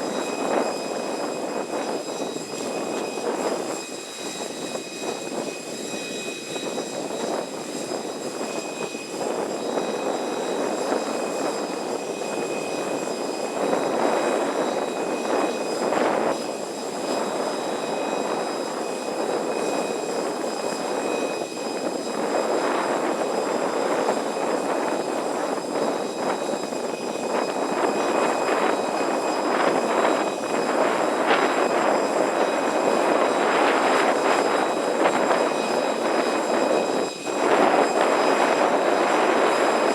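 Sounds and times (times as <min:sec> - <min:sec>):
faint high whining tones: 0:00.0 - 0:39.9
jet aircraft rushing hum: 0:00.0 - 0:39.9.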